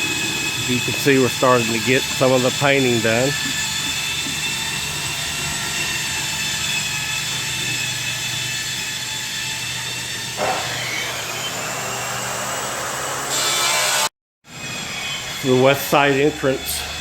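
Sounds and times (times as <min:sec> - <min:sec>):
machine whine: 0:00.0 - 0:17.0.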